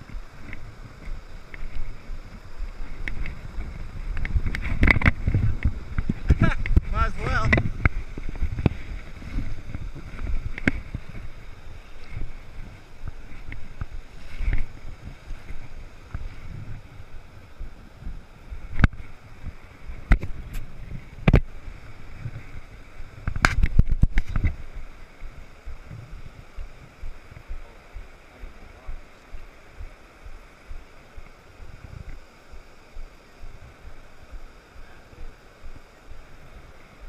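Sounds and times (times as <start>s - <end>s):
river water flowing: 0.0s - 37.0s
wind rumbling on microphone: 0.0s - 37.0s.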